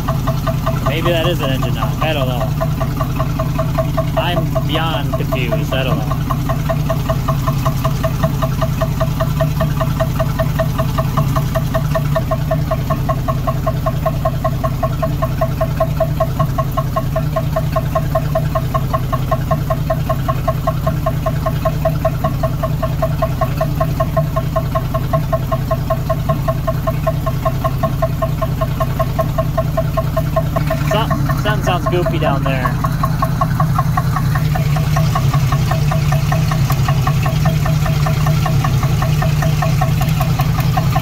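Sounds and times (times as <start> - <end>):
car engine idling with metallic knock: 0.0 - 41.0.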